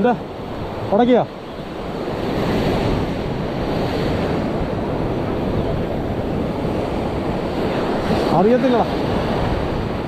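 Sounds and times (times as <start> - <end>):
sea surf breaking: 0.0 - 10.0
wind on microphone: 0.0 - 10.0.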